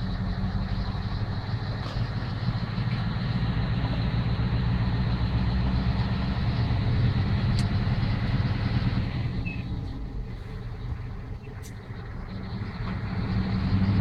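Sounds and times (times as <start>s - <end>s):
diesel engine deep rumble: 0.0s - 14.0s.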